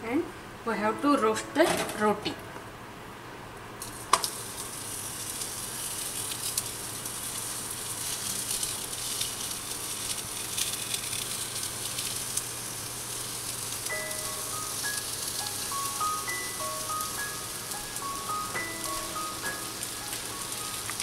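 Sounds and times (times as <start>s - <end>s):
oil sizzling and crackling: 3.8s - 21.0s.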